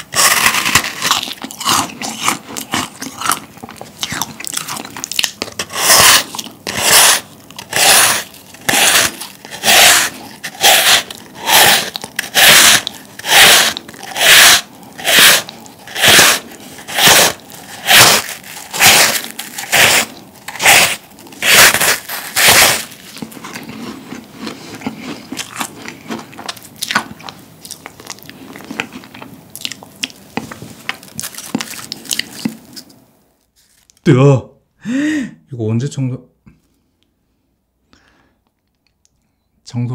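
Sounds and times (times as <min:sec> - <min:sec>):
crisp crunching of meringue: 0:00.0 - 0:33.0
quiet chewing: 0:00.0 - 0:33.0
meringue crumbling by hand: 0:00.0 - 0:34.1.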